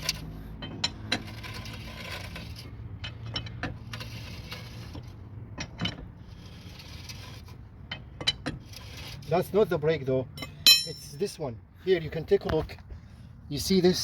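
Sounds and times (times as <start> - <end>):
metallic clicking and scraping from wheel: 0.0 - 11.4.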